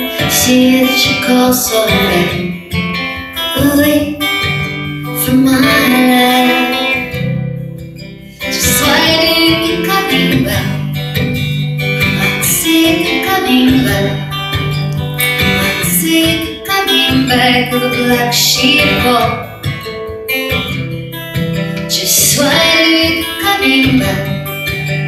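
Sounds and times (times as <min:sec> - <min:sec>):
woman singing: 0:00.0 - 0:07.5, 0:08.4 - 0:19.9, 0:21.6 - 0:25.0
acoustic guitar strumming: 0:00.0 - 0:25.0.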